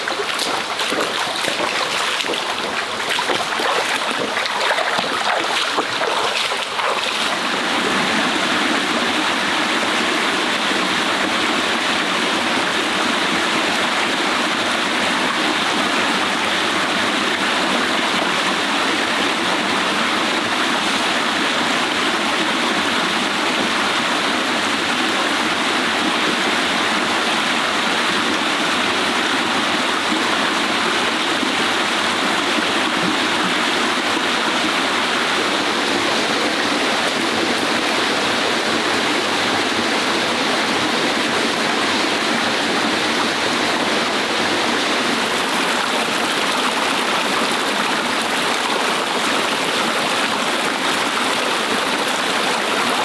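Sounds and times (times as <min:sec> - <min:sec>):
stream rushing over stones: 0:00.0 - 0:53.0.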